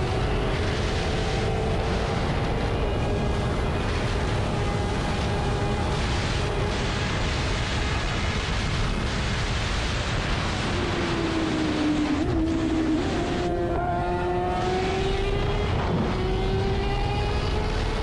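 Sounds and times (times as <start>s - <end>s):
motorcycle engine: 0.0s - 8.6s, 10.6s - 18.0s
wind noise: 0.0s - 18.0s.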